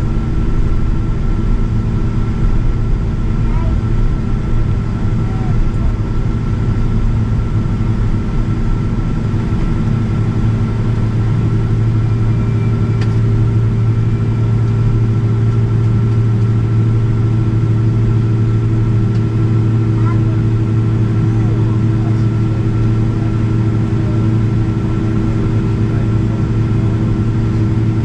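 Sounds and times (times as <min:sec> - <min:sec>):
aircraft cabin engine drone: 0:00.0 - 0:28.0.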